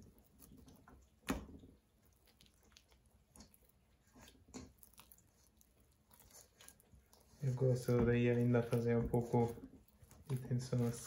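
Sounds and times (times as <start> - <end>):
dough squishing: 0.0 - 11.0.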